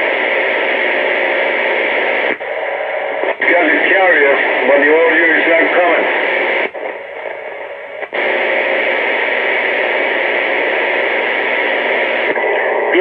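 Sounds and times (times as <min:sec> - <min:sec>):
radio click: 0:00.0 - 0:13.0
radio static hiss: 0:00.0 - 0:13.0.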